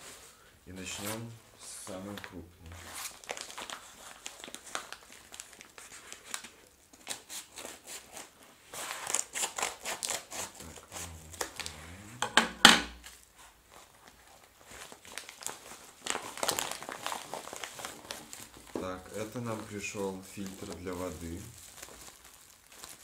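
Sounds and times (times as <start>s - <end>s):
plastic envelope crinkling: 1.8s - 11.8s, 13.0s - 23.0s.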